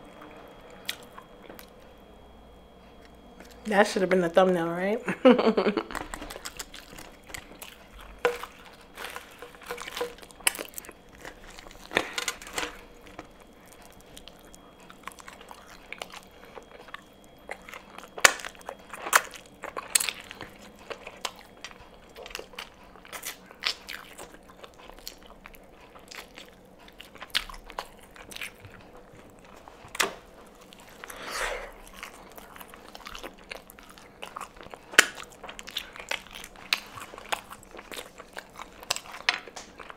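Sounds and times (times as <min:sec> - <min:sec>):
person chewing crunchy food: 0:00.5 - 0:03.7, 0:05.9 - 0:39.9.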